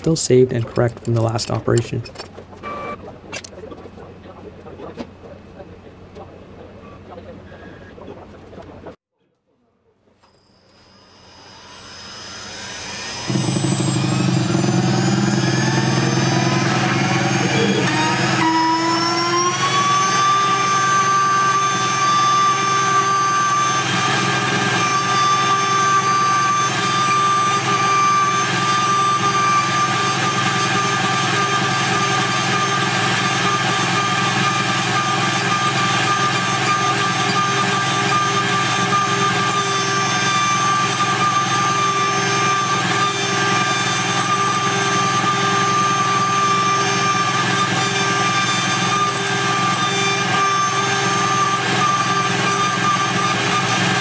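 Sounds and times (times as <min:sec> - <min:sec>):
mill spindle high whine: 0:00.0 - 0:09.0, 0:10.1 - 0:54.0.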